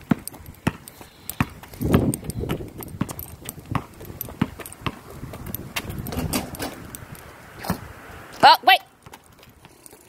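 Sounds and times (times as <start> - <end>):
basketball bouncing on asphalt: 0.0 - 10.0.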